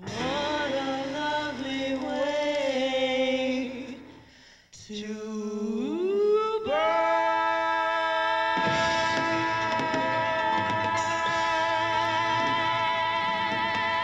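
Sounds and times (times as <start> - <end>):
man and woman singing duet: 0.0 - 14.0.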